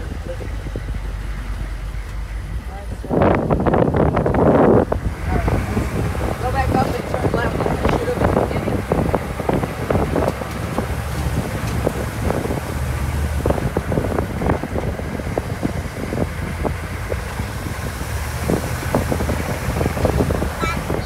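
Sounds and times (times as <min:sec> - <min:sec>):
knocks and rattles: 0:00.0 - 0:21.0
vehicle engine rumble: 0:00.0 - 0:21.0
wind buffeting microphone: 0:00.0 - 0:21.0.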